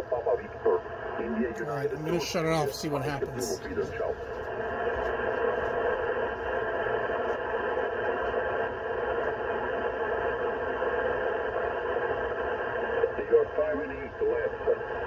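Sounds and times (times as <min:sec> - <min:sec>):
radio receiver static hiss: 0:00.0 - 0:15.0.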